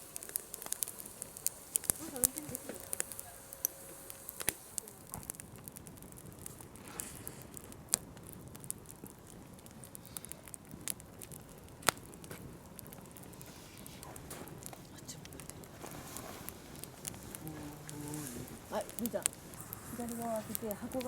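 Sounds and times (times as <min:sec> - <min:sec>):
sharp pops of fire: 0:00.0 - 0:21.0
wood campfire crackling: 0:00.0 - 0:21.0.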